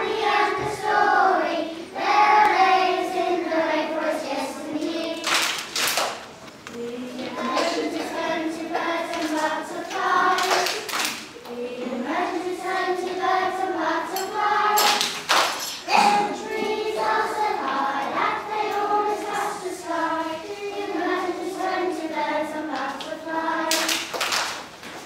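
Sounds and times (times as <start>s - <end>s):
children singing together: 0.0s - 5.7s, 6.7s - 24.3s.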